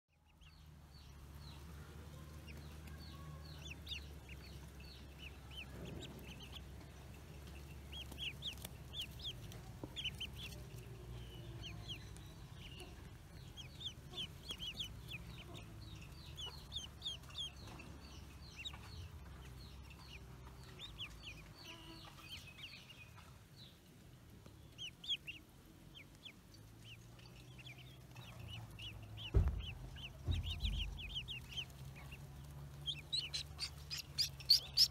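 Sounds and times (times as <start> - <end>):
ducklings peeping: 0.1 - 34.9
faint low rumble: 0.1 - 34.9.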